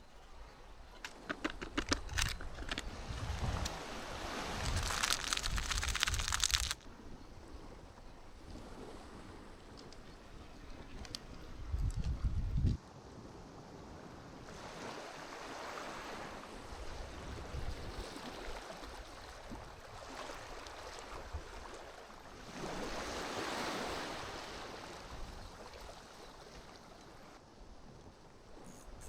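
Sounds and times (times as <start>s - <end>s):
sea waves washing ashore: 0.0s - 11.7s, 12.9s - 28.8s.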